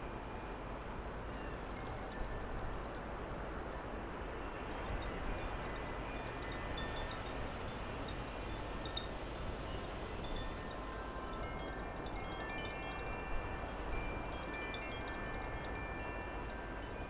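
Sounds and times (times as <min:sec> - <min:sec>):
wind chimes ringing: 0:01.4 - 0:02.8, 0:03.7 - 0:09.2, 0:09.8 - 0:17.0.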